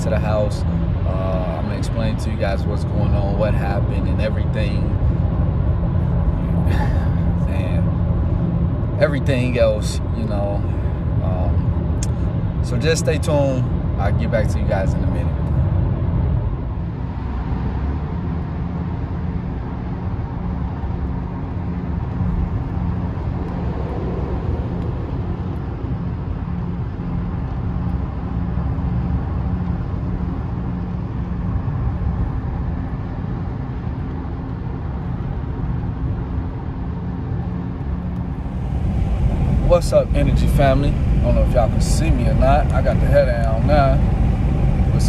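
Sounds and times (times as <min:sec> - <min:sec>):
car road noise rumble: 0:00.0 - 0:45.0
faint steady hum: 0:00.0 - 0:45.0.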